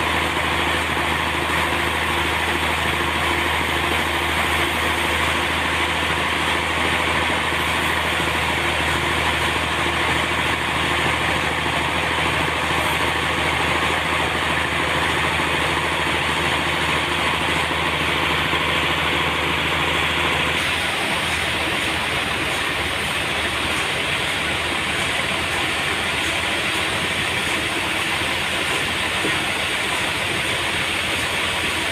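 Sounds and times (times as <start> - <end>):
sawmill engine hum: 0.0 - 31.9
sawmill hiss: 0.0 - 31.9.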